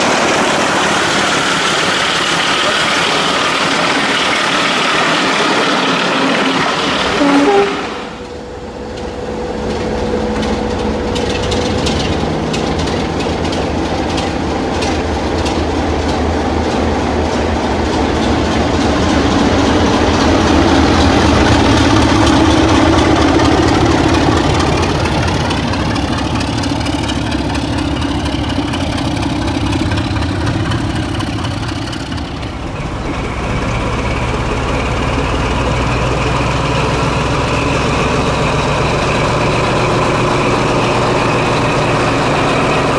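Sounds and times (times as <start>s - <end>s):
diesel locomotive engine running: 0.0s - 42.9s.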